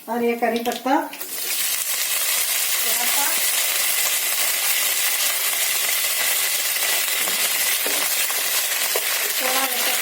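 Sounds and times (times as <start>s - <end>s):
seeds sizzling in hot oil: 0.0s - 10.0s.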